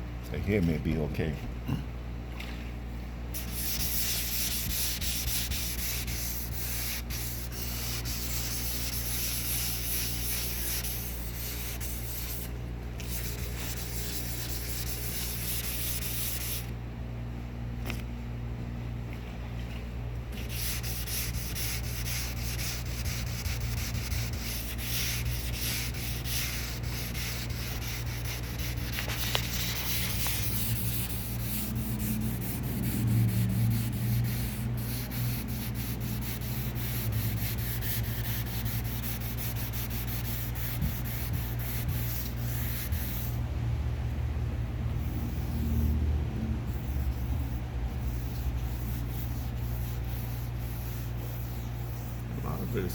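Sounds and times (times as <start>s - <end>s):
low hum: 1.4s - 52.3s
sandpaper rubbing on car paint: 3.4s - 16.7s, 20.4s - 43.4s, 45.0s - 46.0s, 46.6s - 52.9s.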